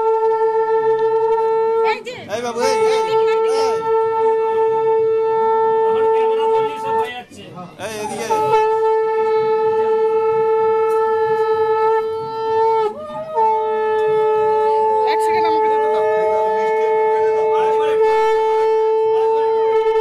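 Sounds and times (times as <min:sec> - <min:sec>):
conch shell blown: 0:00.0 - 0:07.1, 0:07.8 - 0:20.0.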